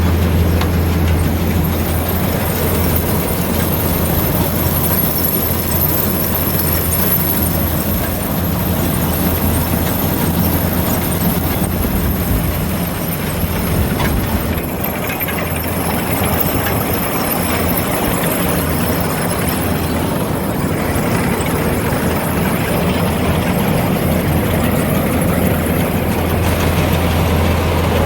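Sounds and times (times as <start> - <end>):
heavy machinery engine droning: 0.0 - 28.0.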